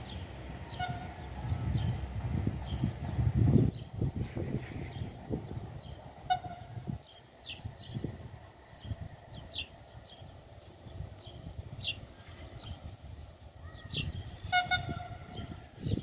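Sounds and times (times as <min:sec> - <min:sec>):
faint low train rumble: 0:00.0 - 0:16.0.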